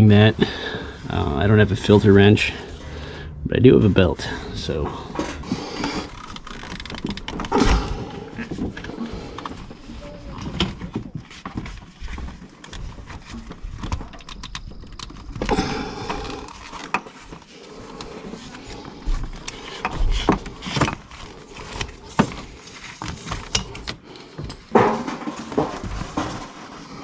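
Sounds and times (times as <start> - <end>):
belt and hands rustling: 4.0 - 27.0.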